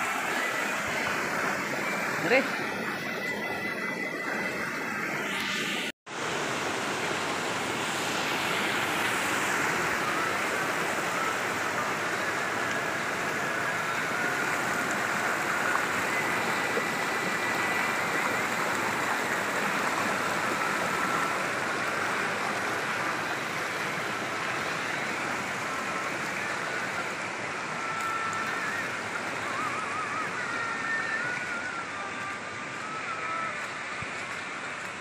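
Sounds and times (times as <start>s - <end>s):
mountain stream rushing: 0.0s - 35.0s.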